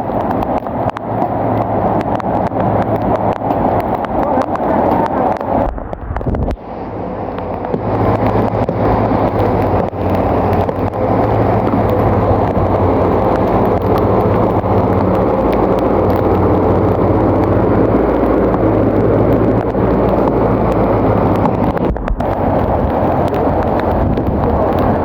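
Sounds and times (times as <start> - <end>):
bulldozer engine at high revs: 0.0 - 25.0.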